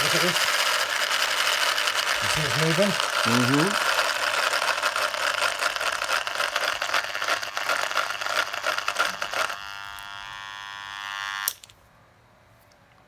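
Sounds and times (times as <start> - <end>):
electric motor crackling buzz: 0.0 - 11.7.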